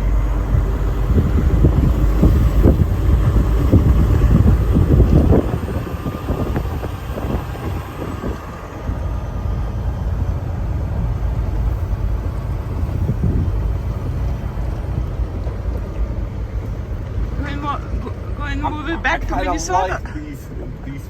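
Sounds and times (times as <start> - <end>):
truck driving on snowy road: 0.0 - 21.0.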